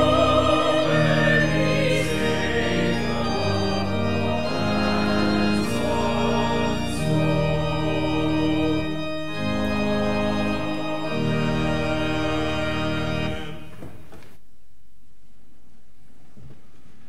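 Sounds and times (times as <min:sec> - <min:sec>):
church organ chords: 0:00.0 - 0:13.8.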